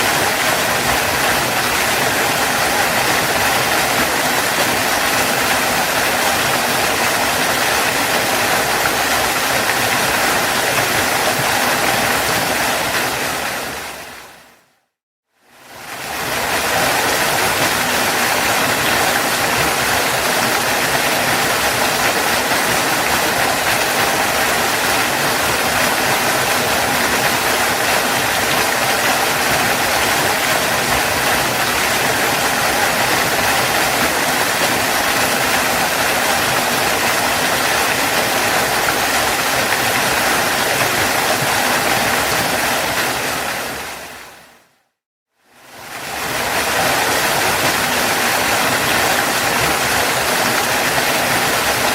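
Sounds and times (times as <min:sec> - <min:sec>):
waterfall rushing: 0:00.0 - 0:14.6, 0:15.6 - 0:44.6, 0:45.6 - 0:51.9.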